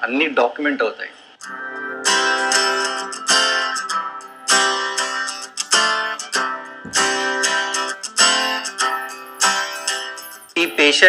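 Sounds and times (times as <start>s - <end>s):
strummed guitar chords: 1.4s - 11.0s.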